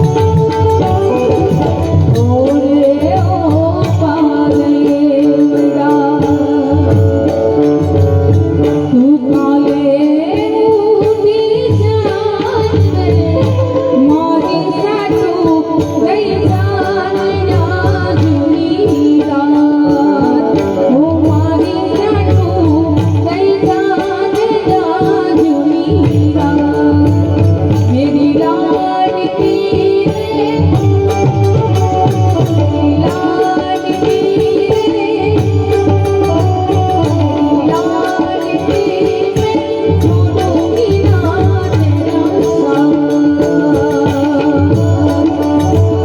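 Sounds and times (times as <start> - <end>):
indian song over sound system: 0.0 - 46.0
person singing: 0.0 - 46.0.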